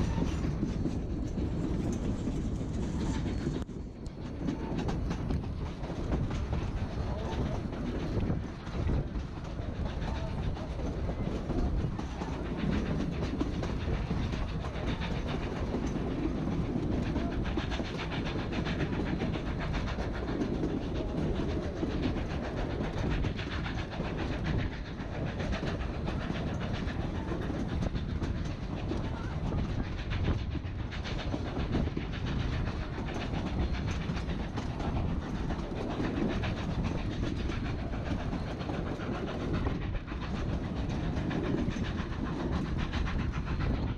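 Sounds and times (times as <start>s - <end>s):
train wheels clickety-clack: 0.0s - 43.9s.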